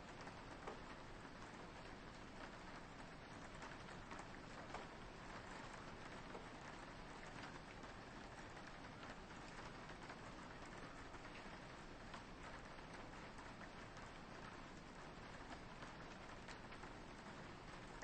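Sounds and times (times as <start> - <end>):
rain on a window: 0.0 - 18.0.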